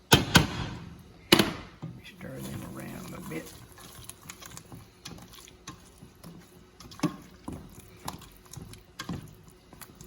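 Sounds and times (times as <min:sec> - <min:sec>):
spoon stirring thick gravy: 0:01.8 - 0:10.0.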